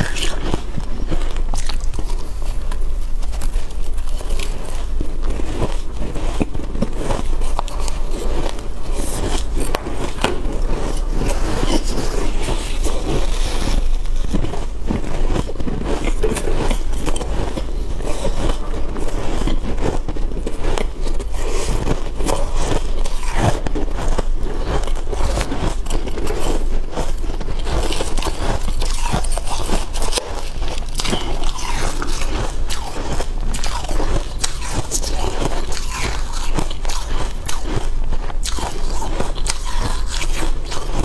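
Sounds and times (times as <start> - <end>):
chewing crunchy frost: 0.0 - 41.0.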